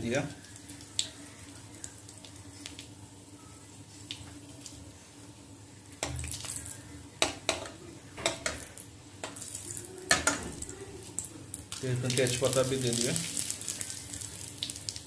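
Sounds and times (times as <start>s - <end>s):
faint sizzle of frying: 0.0s - 15.0s.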